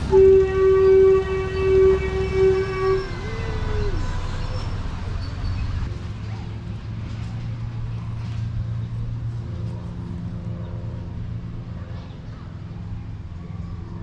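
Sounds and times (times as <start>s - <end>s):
locomotive engine humming: 0.0s - 14.0s.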